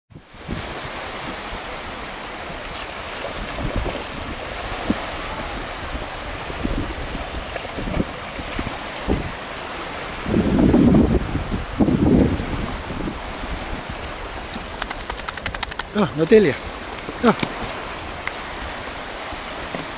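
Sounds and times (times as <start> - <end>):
wind buffeting microphone: 0.1 - 19.9
small waves washing on shore: 0.2 - 19.9.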